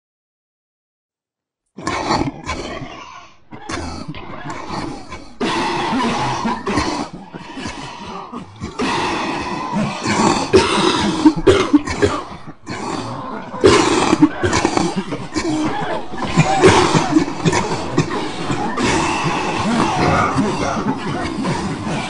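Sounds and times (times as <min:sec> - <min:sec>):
people coughing: 0:03.5 - 0:22.0.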